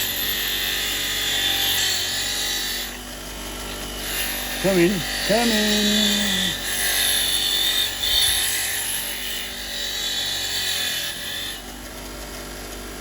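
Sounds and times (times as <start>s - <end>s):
wire wheel grinding rust: 0.0s - 13.0s.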